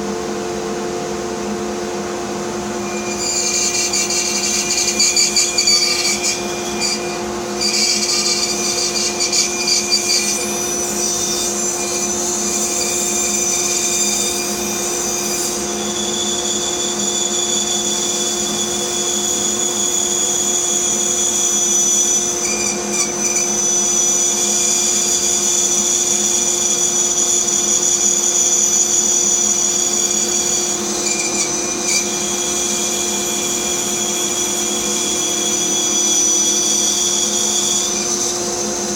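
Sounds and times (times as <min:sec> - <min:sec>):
power tool motor hum with whine: 0:01.5 - 0:38.9.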